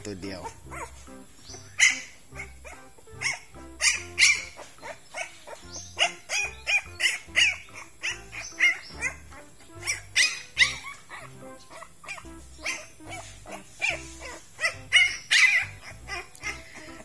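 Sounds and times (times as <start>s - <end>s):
background music: 0.0s - 17.0s
puppy yelping: 0.3s - 17.0s.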